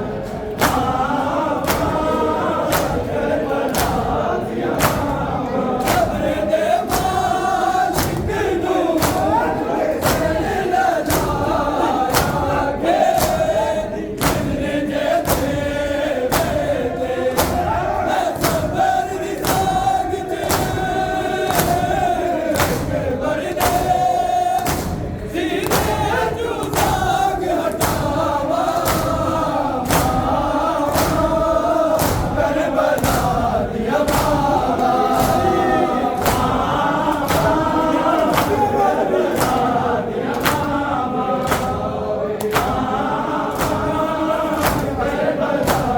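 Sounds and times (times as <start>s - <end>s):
men chanting together: 0.0s - 45.9s
hands slapping chests: 0.2s - 45.9s.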